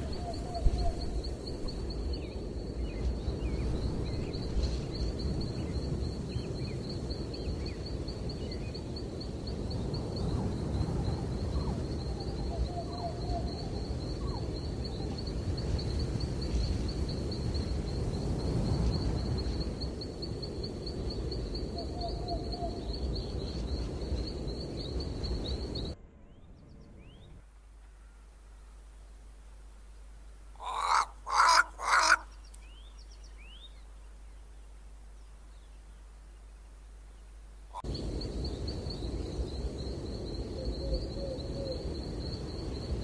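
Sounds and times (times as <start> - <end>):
high pulsing insect trill: 0.0 - 27.7, 28.3 - 43.0.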